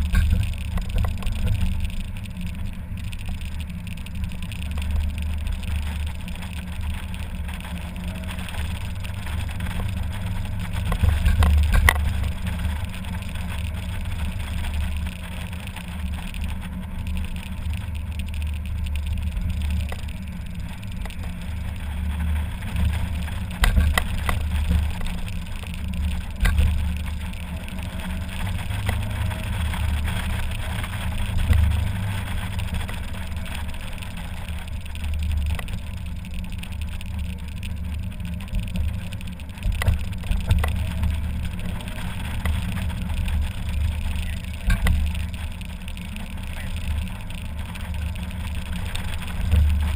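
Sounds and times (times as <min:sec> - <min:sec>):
car engine running: 0:00.0 - 0:49.9
wind rumble: 0:00.0 - 0:49.9.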